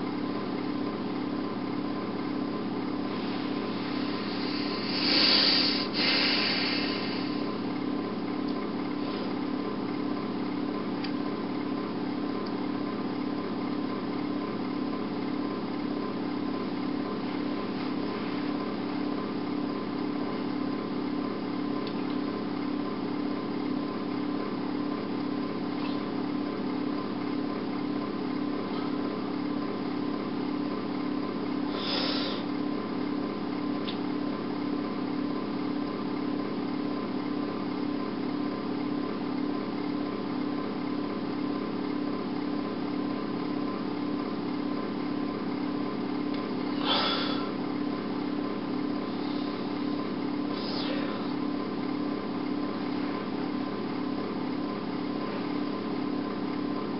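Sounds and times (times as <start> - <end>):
machine hum: 0.0 - 56.9.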